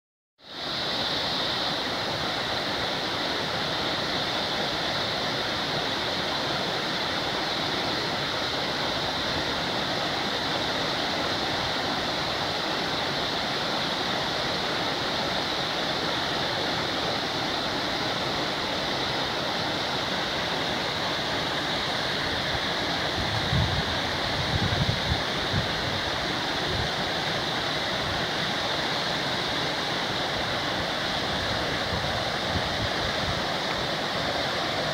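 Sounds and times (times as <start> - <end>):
waterfall roaring: 0.5 - 34.9.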